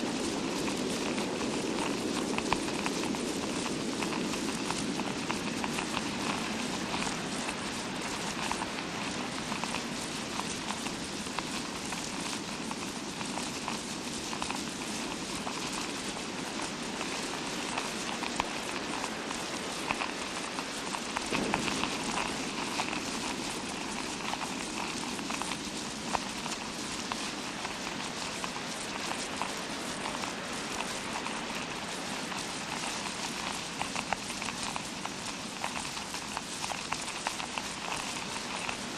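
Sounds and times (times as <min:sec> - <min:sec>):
artificial rain patter: 0:00.0 - 0:38.9.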